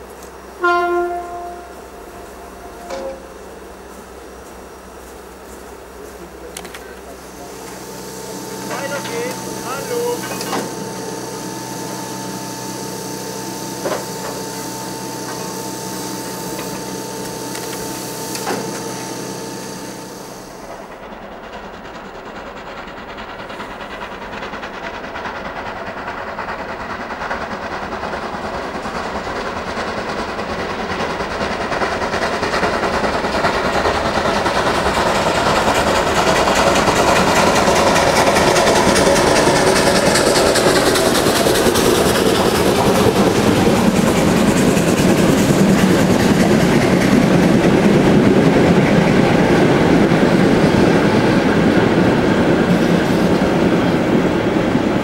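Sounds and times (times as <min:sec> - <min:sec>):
steam locomotive approaching: 0:00.0 - 0:55.0
steam locomotive hissing: 0:00.0 - 0:55.0.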